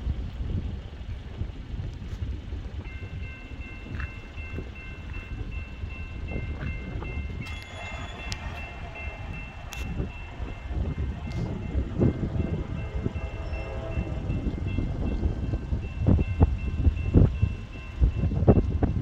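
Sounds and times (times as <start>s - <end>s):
low rumble: 0.0s - 19.0s
railroad crossing bell ringing: 2.6s - 19.0s.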